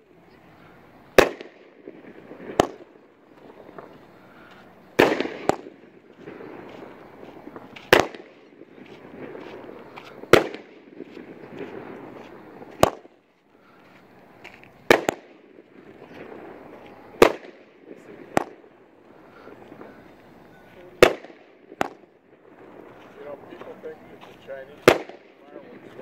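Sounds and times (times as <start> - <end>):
fireworks bangs: 0.0 - 13.2, 14.3 - 26.0.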